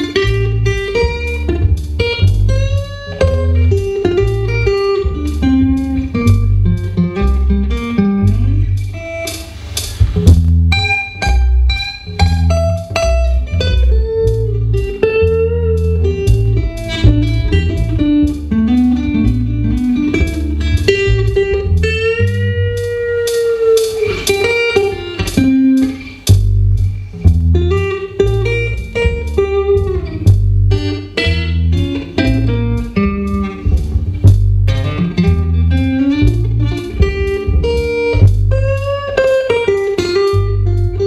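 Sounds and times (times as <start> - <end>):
fingerpicked acoustic blues guitar: 0.0 - 41.0.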